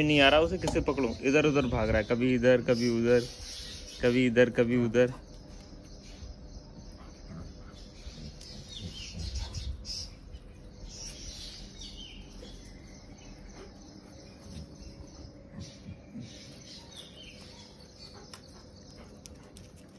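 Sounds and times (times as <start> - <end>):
birds chirping: 0.0 - 19.9
outdoor background noise: 0.0 - 19.9.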